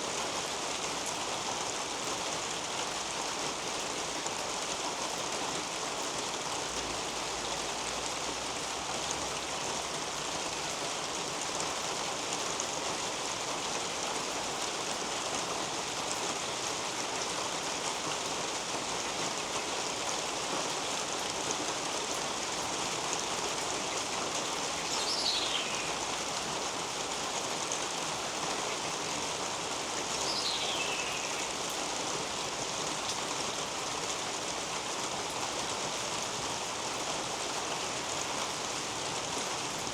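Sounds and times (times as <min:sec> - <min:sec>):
rain on leaves and roof: 0:00.0 - 0:39.9.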